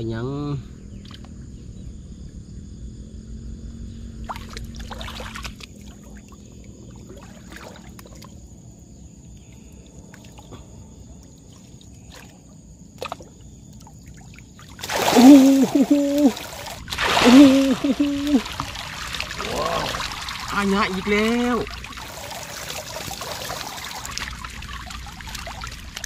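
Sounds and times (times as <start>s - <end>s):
water sloshing and splashing: 4.2s - 26.0s.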